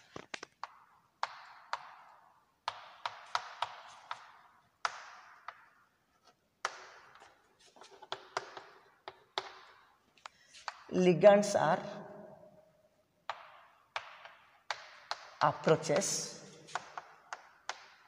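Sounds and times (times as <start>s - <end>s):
chalk tapping and scratching: 0.0s - 9.8s, 13.3s - 18.0s.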